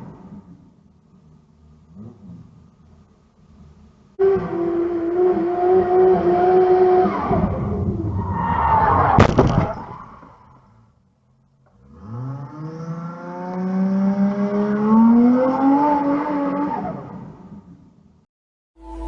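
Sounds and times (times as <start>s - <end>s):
car engine accelerating: 0.0s - 9.0s, 11.5s - 17.8s.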